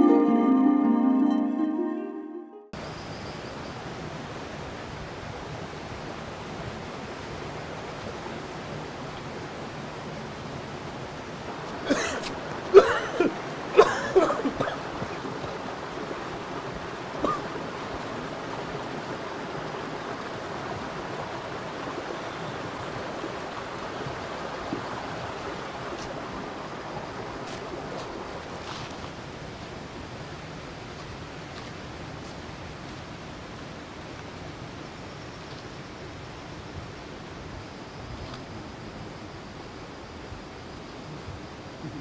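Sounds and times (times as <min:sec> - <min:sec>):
rushing outdoor ambience: 0:03.8 - 0:42.0.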